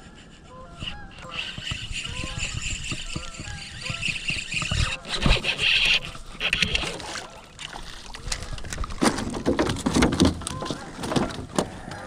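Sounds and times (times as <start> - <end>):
knocks and scrapes on canoe hull: 0.8 - 11.8
water sloshing: 0.8 - 11.8.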